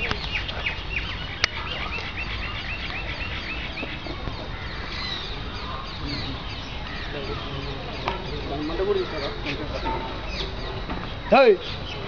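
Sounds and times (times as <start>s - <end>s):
birds calling and chirping: 0.0s - 12.0s.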